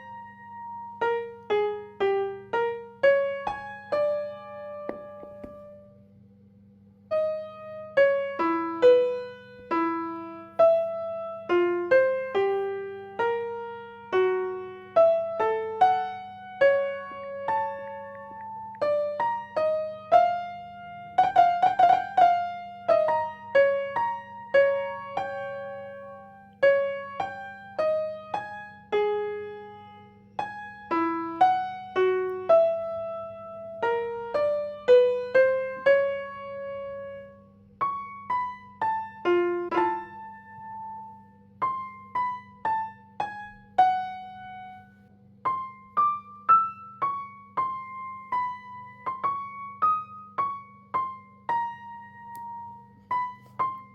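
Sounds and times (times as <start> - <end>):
slow piano melody: 0.0 - 53.9.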